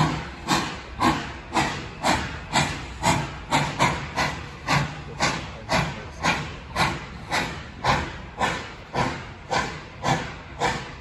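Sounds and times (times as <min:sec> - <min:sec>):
steam locomotive exhaust chuffing: 0:00.0 - 0:11.0.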